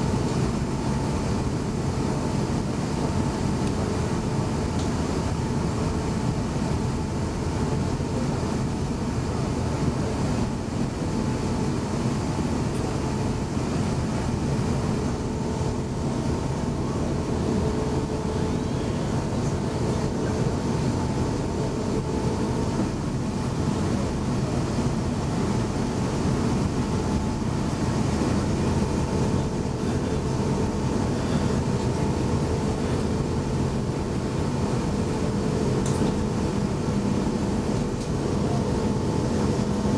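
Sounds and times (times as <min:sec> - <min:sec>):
aircraft cabin rumble: 0:00.0 - 0:39.9
faint steady hum: 0:00.0 - 0:39.9.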